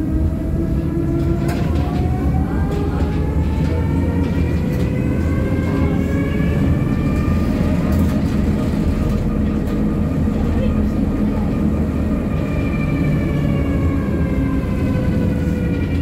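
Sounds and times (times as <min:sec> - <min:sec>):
tram motor whine: 0:00.0 - 0:16.0
tram wheels rumbling on rail: 0:00.0 - 0:16.0.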